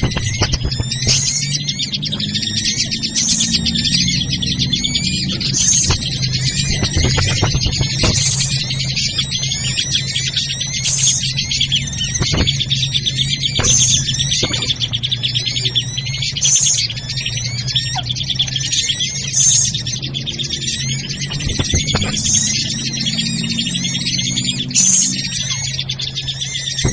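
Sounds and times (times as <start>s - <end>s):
harsh bird call: 0.0s - 26.9s
low hum: 0.0s - 26.9s
small birds chirping: 0.0s - 26.9s.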